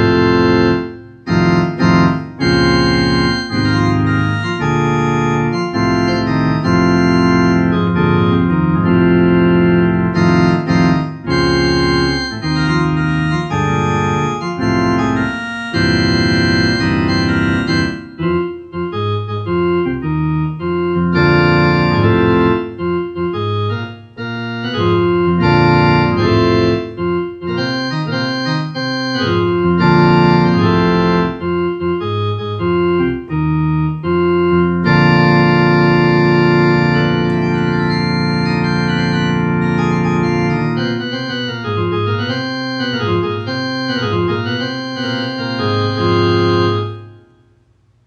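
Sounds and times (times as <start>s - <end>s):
organ-toned keyboard chords: 0.0s - 48.0s.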